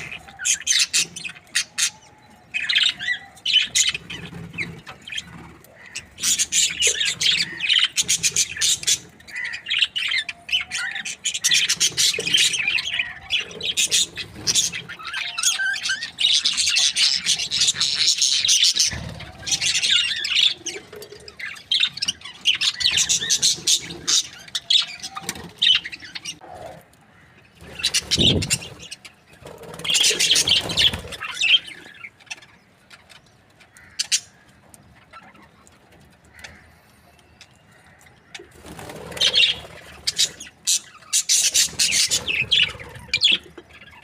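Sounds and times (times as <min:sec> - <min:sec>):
budgerigars chirping and chattering: 0:00.0 - 0:26.5, 0:27.6 - 0:44.0.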